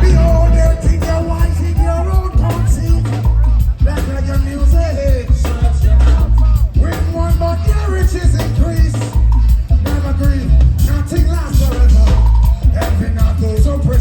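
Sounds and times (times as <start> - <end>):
drums: 0.0 - 14.0
heavy bass line: 0.0 - 14.0
person singing: 0.0 - 14.0
reggae band playing: 0.0 - 14.0.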